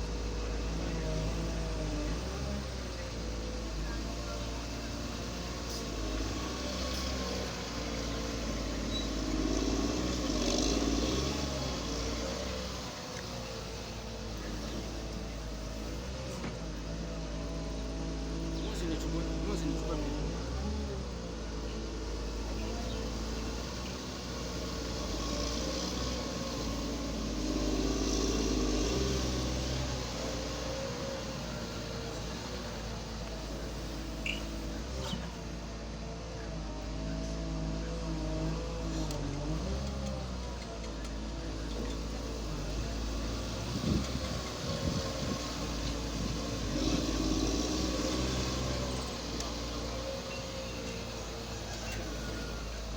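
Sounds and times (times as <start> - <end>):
construction machinery engine running: 0.0 - 52.9.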